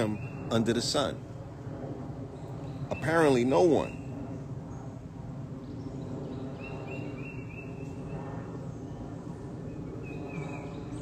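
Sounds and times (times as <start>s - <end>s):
bird chirping: 0.0s - 1.1s, 2.2s - 11.0s
low outdoor rumble: 0.0s - 11.0s.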